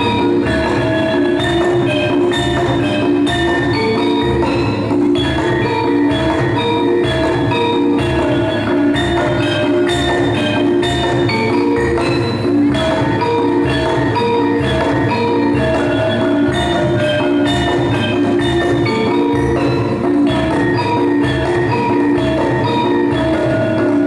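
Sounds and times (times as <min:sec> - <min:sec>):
gamelan music: 0:00.0 - 0:24.0.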